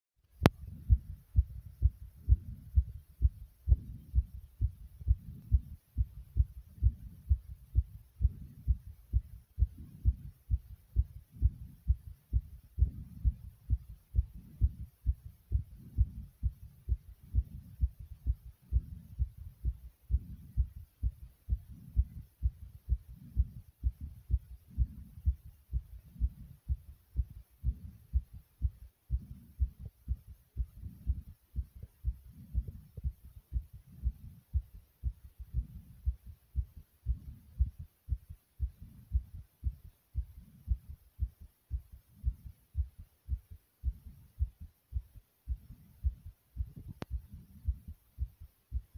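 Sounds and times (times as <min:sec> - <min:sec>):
heartbeat thumps: 0:00.3 - 0:48.9.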